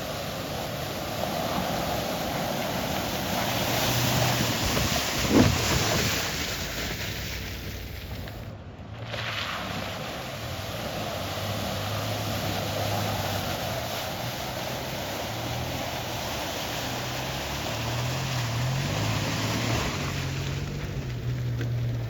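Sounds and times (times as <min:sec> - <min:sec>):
river water rushing: 0:00.0 - 0:06.8, 0:09.6 - 0:21.3.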